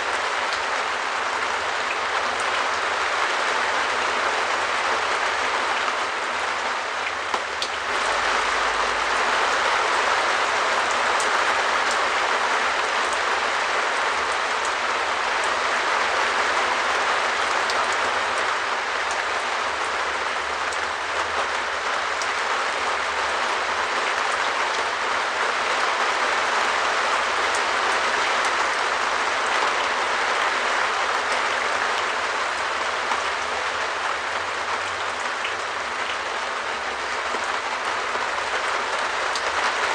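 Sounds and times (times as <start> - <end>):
rain on a shed roof: 0.0 - 39.9.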